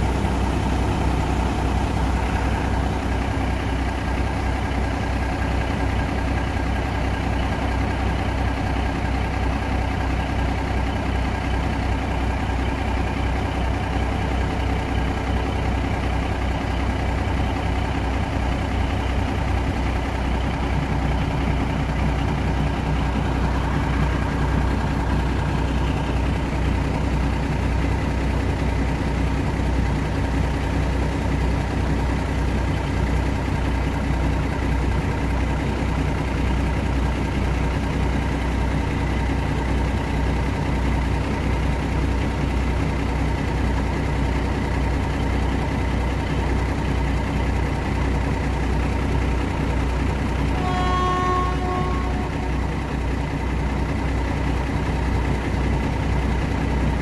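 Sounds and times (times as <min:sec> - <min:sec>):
diesel train engine idling: 0:00.0 - 0:57.0.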